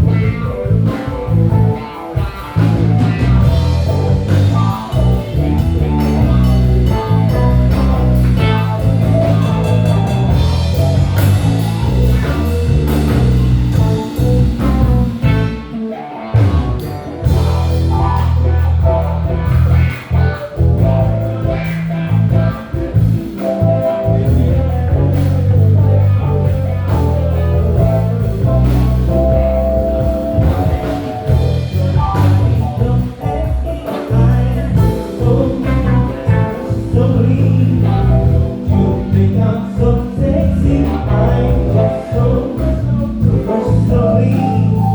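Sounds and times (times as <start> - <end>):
heavy bass line: 0.0 - 44.9
live band playing blues-soul: 0.0 - 44.9
sustained lead melody: 0.0 - 44.9.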